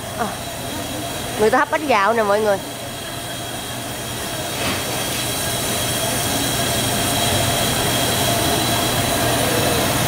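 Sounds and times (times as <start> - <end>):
steam hissing: 0.0 - 10.0.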